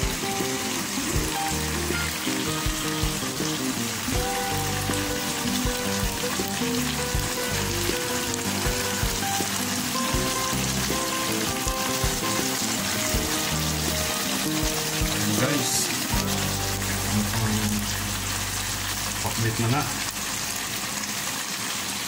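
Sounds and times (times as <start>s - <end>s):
background music: 0.0s - 20.8s
vegetables sizzling in a wok: 0.0s - 22.0s.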